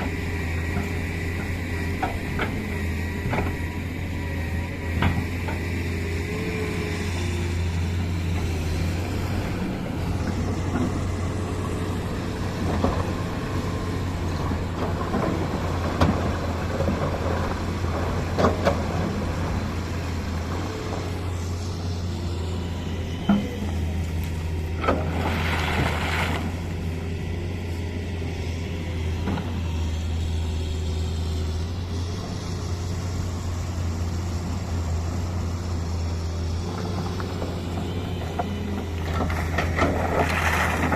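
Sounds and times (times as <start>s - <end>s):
diesel machinery droning: 0.0s - 40.9s.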